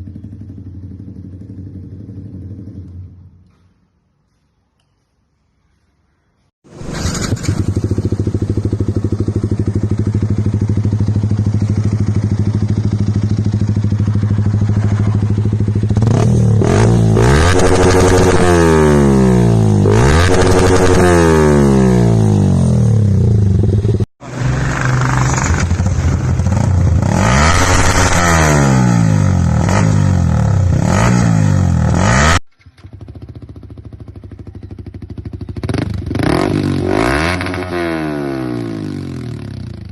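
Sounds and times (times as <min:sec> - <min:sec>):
motorcycle engine idling and revving: 0:00.0 - 0:04.4, 0:06.7 - 0:39.9.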